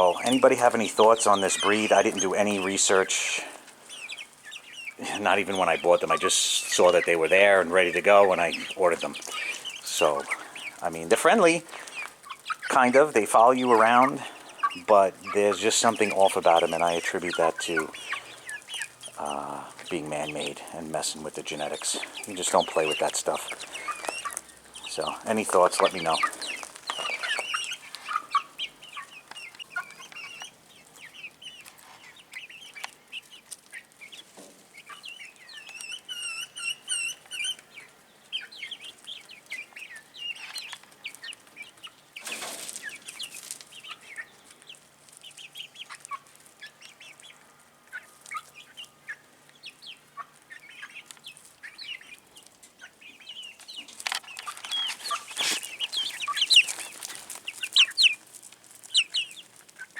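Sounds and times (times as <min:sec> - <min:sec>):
chicks peeping and chirping: 0:00.0 - 0:59.9.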